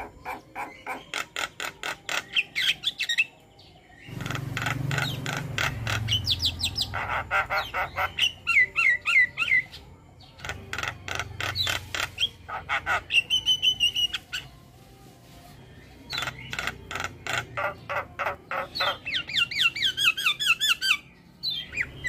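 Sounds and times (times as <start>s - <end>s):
starlings singing: 0.0s - 22.0s.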